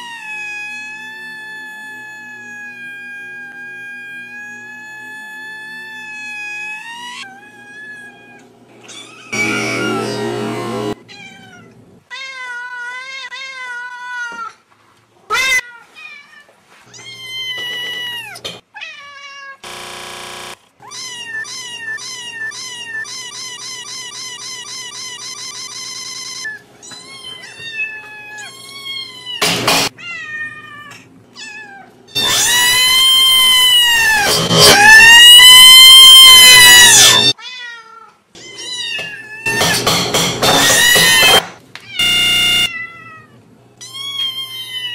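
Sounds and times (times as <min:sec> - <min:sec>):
cats and kittens meowing: 0:00.0 - 0:10.2, 0:10.9 - 0:14.6, 0:15.3 - 0:19.6, 0:20.8 - 0:44.9.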